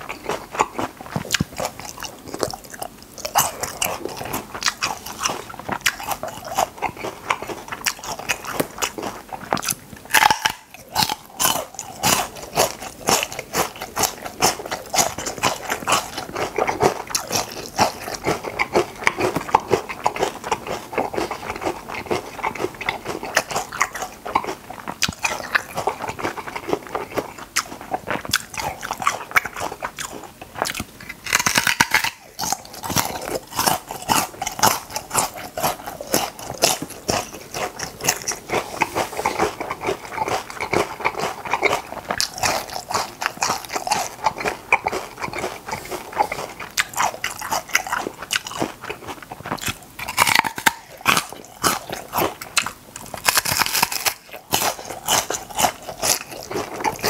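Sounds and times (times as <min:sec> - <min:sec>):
crunching and chewing crisp food: 0:00.0 - 0:57.0.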